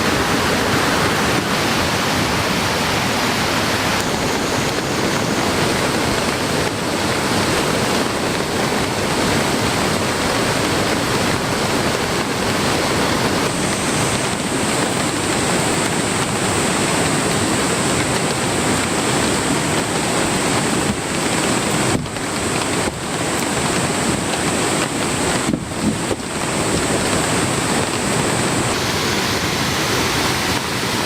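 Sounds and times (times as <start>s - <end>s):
fast-flowing stream: 0.0s - 31.0s
heavy rain: 0.0s - 31.0s.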